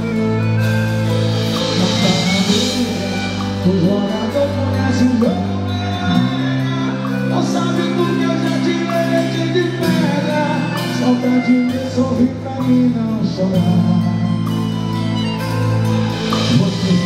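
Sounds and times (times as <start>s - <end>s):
live band music: 0.0s - 17.0s
sustained bass notes: 0.0s - 17.0s
man singing slow song: 1.4s - 15.0s, 16.1s - 17.0s.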